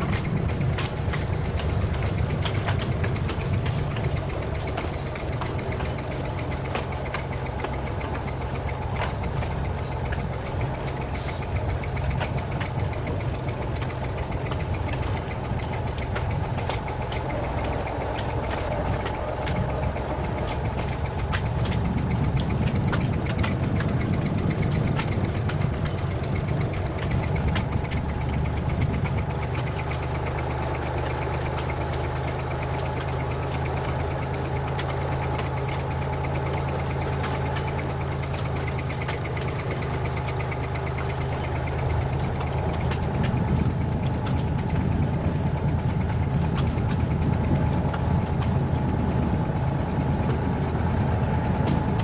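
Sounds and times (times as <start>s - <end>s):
diesel train engine running: 0.0s - 52.0s
sharp clicks and rattles: 0.0s - 52.0s.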